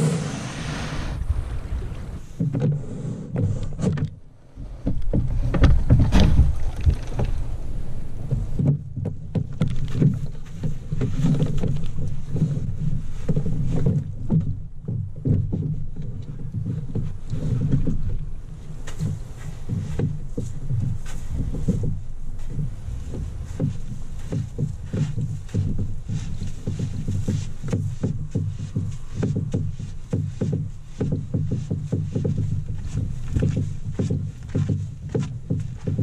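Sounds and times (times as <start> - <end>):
canoe hull knocking and bumping: 1.3 - 36.0.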